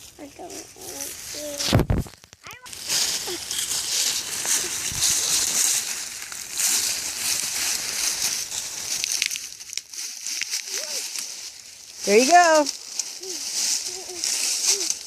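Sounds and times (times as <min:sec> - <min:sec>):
leafy branches rustling: 0:00.0 - 0:15.0
branches snapping: 0:01.6 - 0:15.0.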